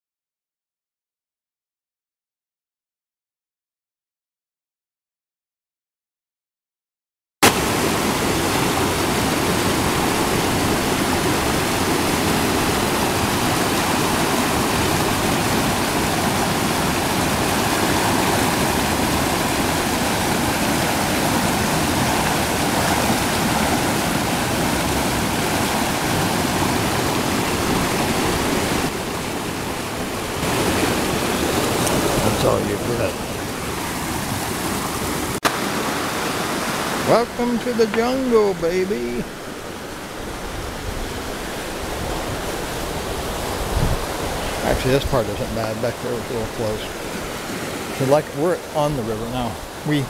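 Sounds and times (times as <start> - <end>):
river water rushing over rocks: 7.4 - 50.0.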